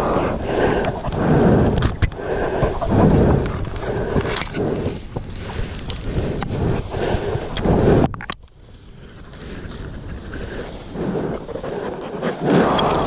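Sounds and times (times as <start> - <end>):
dry grass rustling: 0.0 - 13.0.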